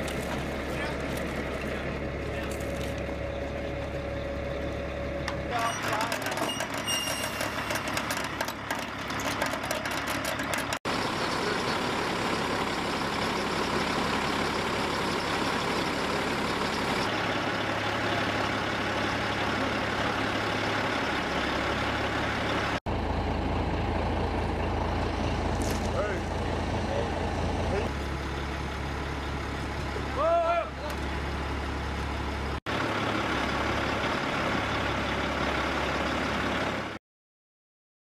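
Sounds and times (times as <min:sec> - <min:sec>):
truck engine running: 0:00.0 - 0:37.0.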